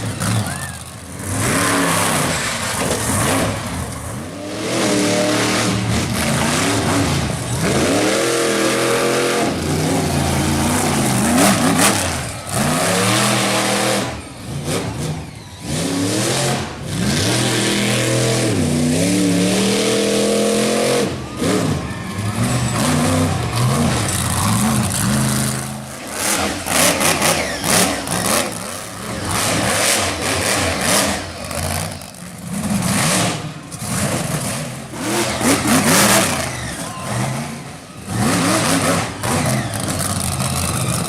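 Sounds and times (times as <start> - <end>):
monster truck engine revving: 0.0 - 41.0.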